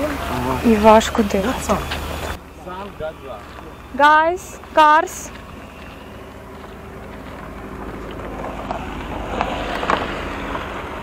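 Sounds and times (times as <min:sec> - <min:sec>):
minibus driving past: 0:00.0 - 0:11.0.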